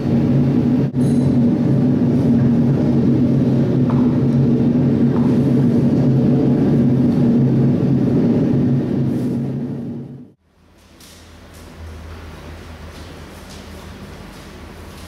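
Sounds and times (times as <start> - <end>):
low rumble with droning hum: 0.0 - 15.0.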